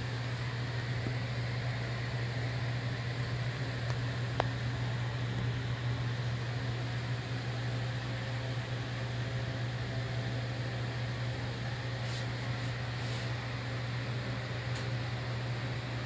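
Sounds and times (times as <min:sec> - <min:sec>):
low machine hum with hiss: 0:00.0 - 0:16.0.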